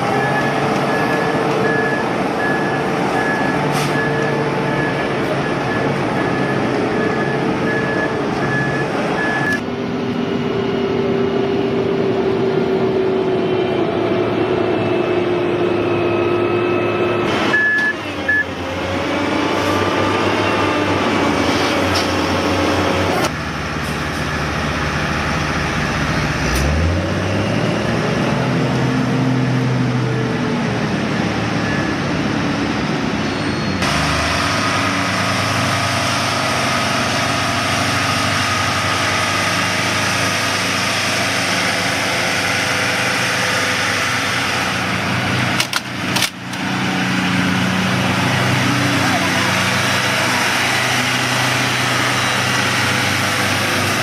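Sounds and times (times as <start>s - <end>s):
heavy machinery engines running: 0.0s - 54.0s.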